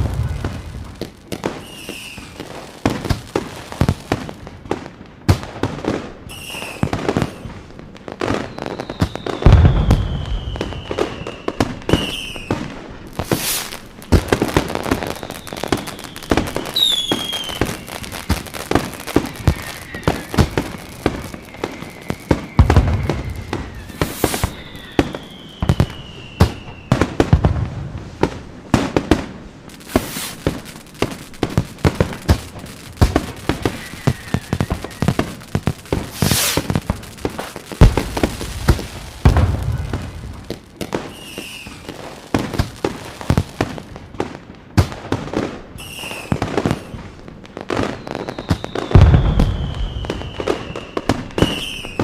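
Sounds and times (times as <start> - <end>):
descending firework whistles: 0.0 - 4.2, 6.2 - 28.3, 29.7 - 43.9, 45.4 - 52.0
fireworks deep booms: 0.0 - 45.6, 46.2 - 52.0
fireworks bangs and crackles: 0.0 - 52.0.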